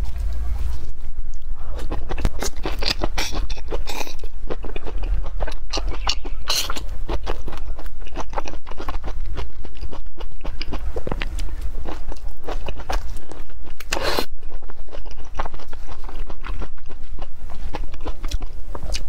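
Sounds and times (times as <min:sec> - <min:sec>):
low steady hum: 0:00.0 - 0:19.0
chewing and crunching: 0:01.3 - 0:19.0.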